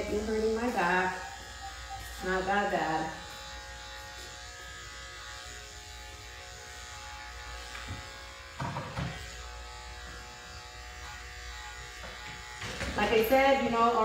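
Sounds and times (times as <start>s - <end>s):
electric dog clippers buzzing: 0.0s - 14.0s.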